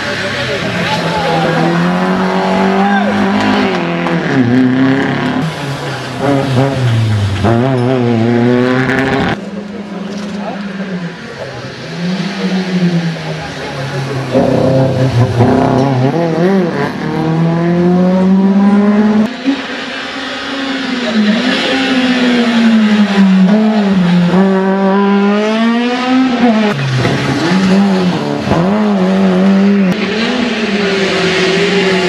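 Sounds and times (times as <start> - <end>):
rally car engines passing: 0.0 - 32.0.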